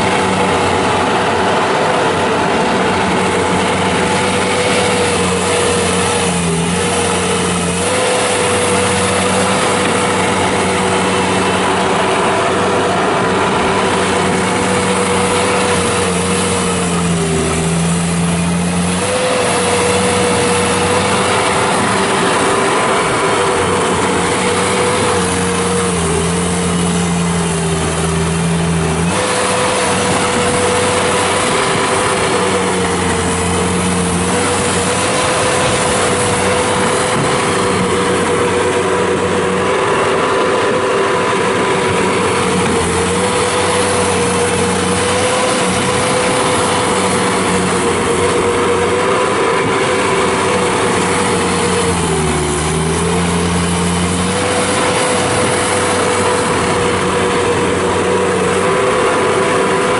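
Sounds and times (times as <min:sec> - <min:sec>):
diesel engine at high revs: 0:00.0 - 0:59.9.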